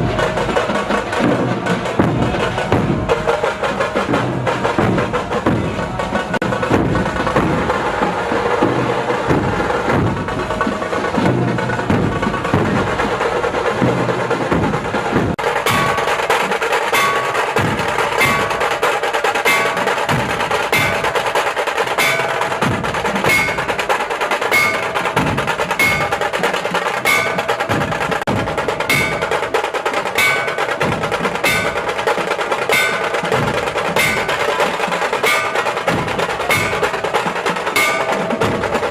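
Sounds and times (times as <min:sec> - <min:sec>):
percussion music with chimes: 0:00.0 - 0:38.9.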